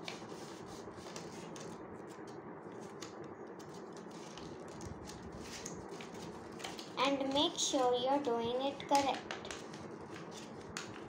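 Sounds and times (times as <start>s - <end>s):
paper rustling and crinkling: 0.0s - 7.3s, 9.2s - 11.0s.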